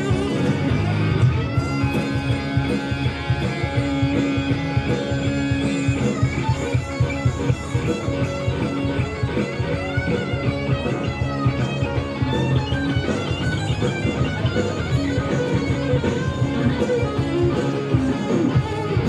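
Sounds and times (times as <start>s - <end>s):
electric guitar lead line: 0.0s - 19.0s
hard rock band playing live: 0.0s - 19.0s.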